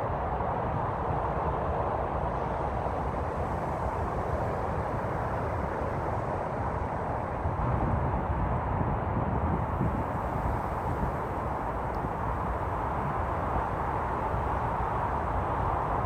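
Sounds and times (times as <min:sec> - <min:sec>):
distant traffic roar: 0:00.0 - 0:16.0
wind rumble on microphone: 0:00.0 - 0:16.0.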